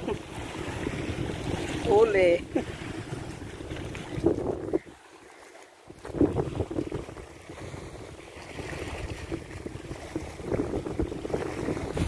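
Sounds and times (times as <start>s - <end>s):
wind on microphone: 0.0s - 5.0s, 5.9s - 12.0s.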